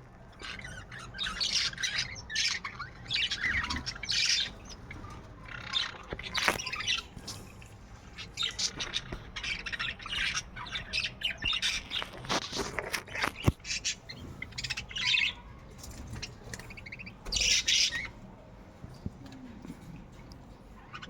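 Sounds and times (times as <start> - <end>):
budgerigars chattering and squawking: 0.2 - 18.3.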